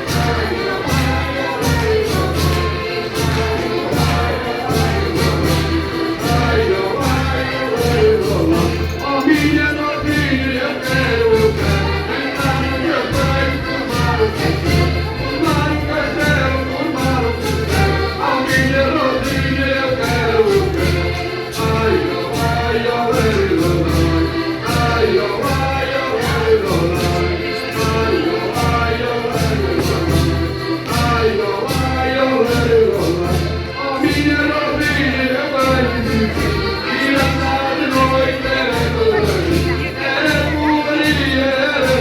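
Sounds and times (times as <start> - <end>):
voices singing: 0.0 - 42.0.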